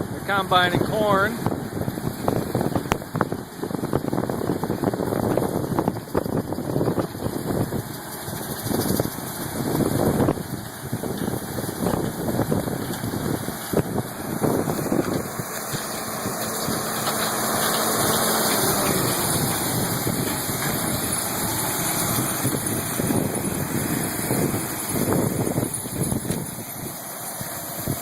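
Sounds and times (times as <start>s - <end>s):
combine harvester engine running: 0.0s - 28.0s
low rumbling: 0.0s - 28.0s.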